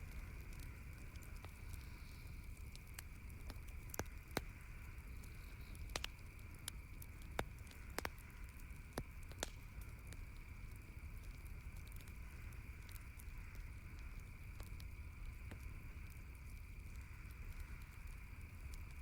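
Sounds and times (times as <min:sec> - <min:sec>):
campfire crackling: 0:00.0 - 0:19.0
faint background hiss: 0:00.0 - 0:19.0.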